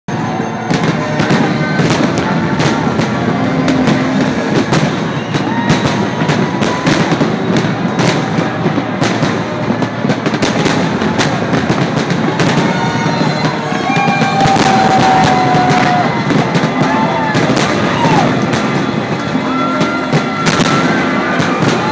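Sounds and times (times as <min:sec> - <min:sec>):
fireworks bangs: 0:00.1 - 0:21.9
fireworks whistling: 0:00.1 - 0:21.9.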